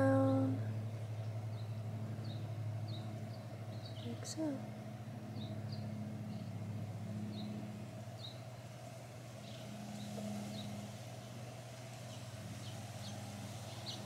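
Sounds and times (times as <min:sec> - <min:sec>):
low mechanical hum: 0:00.0 - 0:14.0
small birds chirping: 0:00.0 - 0:14.0.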